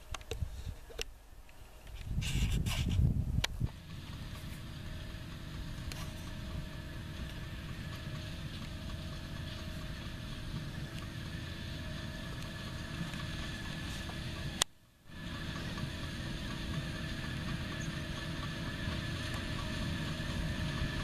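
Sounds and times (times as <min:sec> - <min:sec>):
faint machinery whine: 0:00.0 - 0:21.0
low engine drone: 0:01.9 - 0:21.0.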